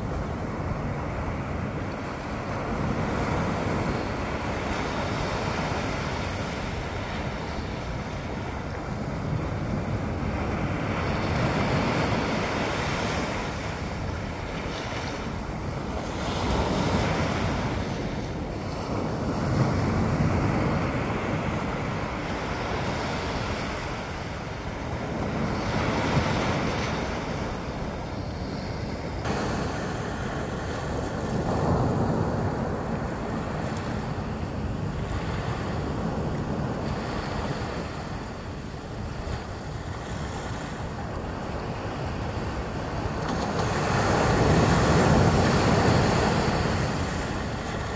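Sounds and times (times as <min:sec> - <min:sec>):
surf breaking on beach: 0:00.0 - 0:47.9
wind buffeting microphone: 0:00.0 - 0:47.9.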